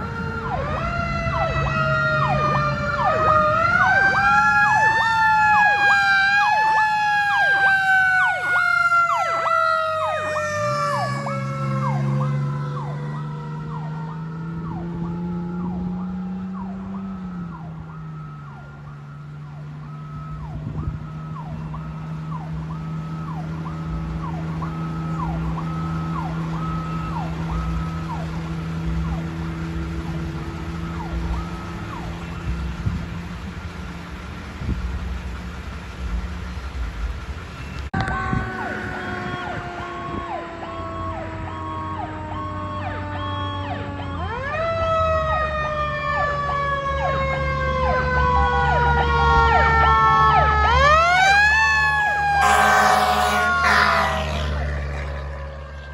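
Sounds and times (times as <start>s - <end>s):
electronic siren rising and dropping: 0.0s - 33.2s, 37.6s - 55.9s
siren with slowly falling pitch: 0.0s - 34.8s, 37.6s - 55.9s.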